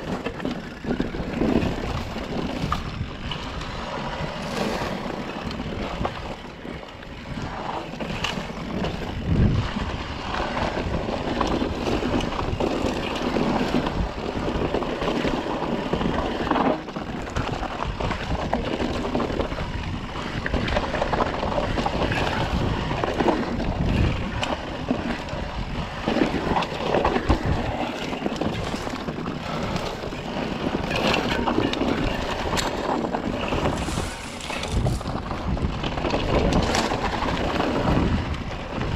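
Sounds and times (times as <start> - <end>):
bike knocking and rattling: 0.0 - 38.9
tyres on dirt: 0.0 - 38.9
wind noise on microphone: 0.0 - 38.9.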